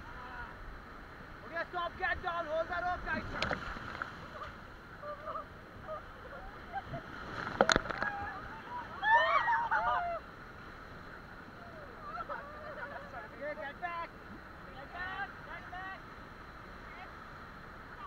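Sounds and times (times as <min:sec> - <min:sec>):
rushing whitewater: 0:00.0 - 0:18.0.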